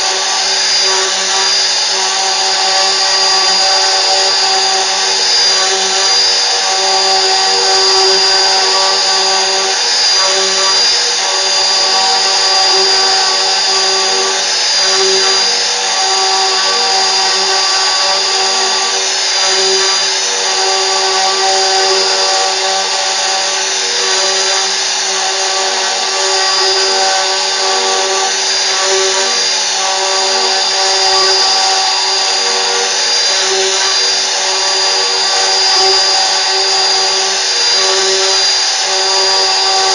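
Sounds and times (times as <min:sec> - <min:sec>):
cnc spindle high whine: 0:00.0 - 0:39.9.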